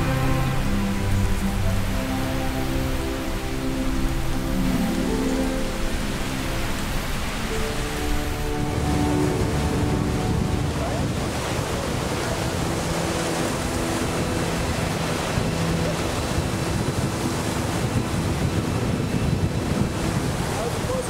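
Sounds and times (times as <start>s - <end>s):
waves breaking and surging: 0.0s - 21.0s
wind buffeting microphone: 0.0s - 21.0s.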